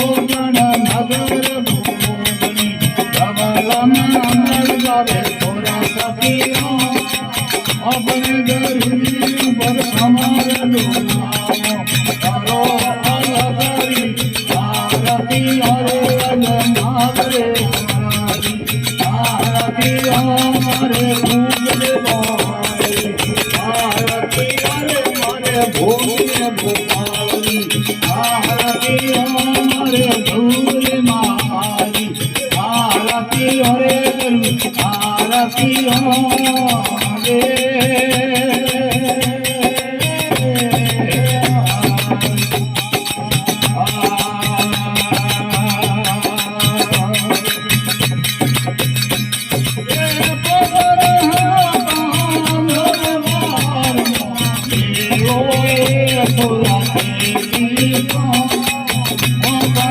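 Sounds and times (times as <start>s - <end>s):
hand percussion rattle: 0.0s - 59.9s.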